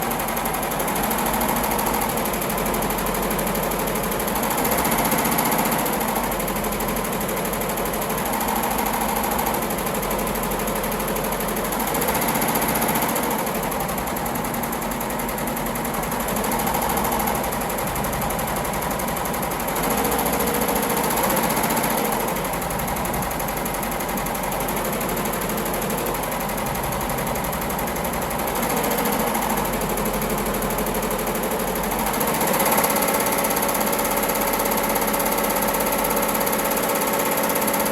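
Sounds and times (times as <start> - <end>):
embroidery machine stitching: 0.0 - 37.9.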